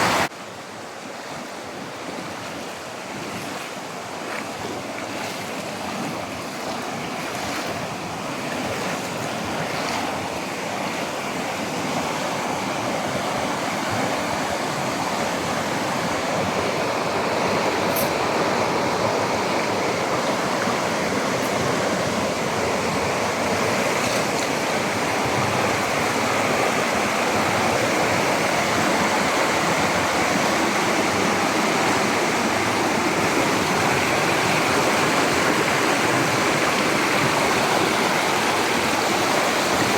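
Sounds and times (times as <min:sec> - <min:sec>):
rushing stream water: 0:00.0 - 0:39.9.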